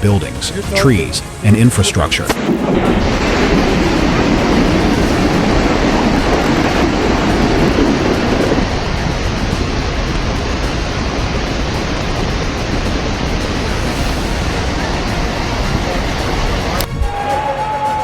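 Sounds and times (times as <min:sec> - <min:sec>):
storm wind and rain: 0:00.0 - 0:17.4.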